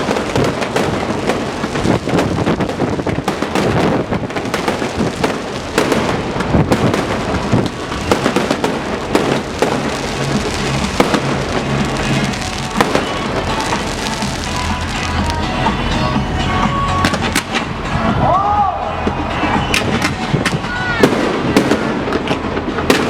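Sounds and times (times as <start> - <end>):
fireworks bursting: 0.0 - 18.2, 19.1 - 23.0
music playing: 0.0 - 23.0.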